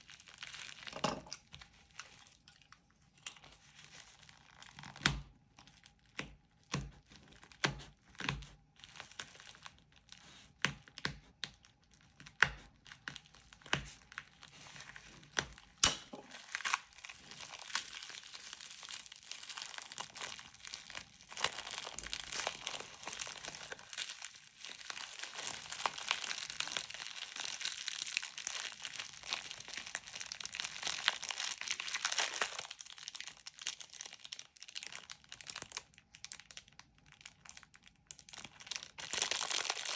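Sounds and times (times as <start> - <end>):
wrapping crinkling and rustling: 0.0 - 39.9.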